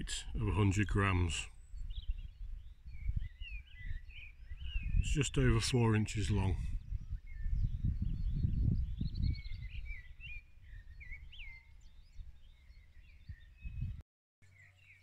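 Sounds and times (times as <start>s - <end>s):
wind rumble on microphone: 0.0s - 14.0s
small birds chirping: 0.0s - 15.0s.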